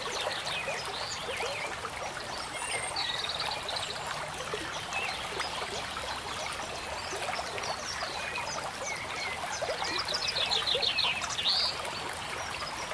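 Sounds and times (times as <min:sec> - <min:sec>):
running stream: 0:00.0 - 0:12.9.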